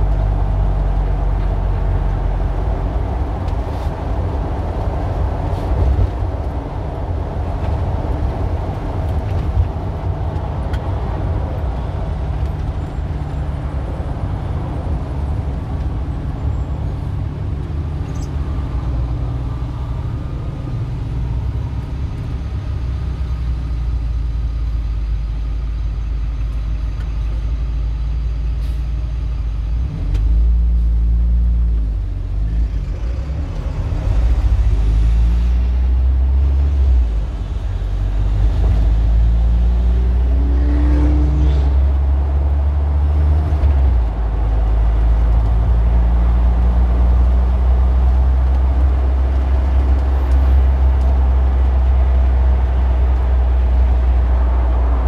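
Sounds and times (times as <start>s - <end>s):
city traffic: 0.0s - 55.0s
vehicle engine rumble: 0.0s - 55.0s.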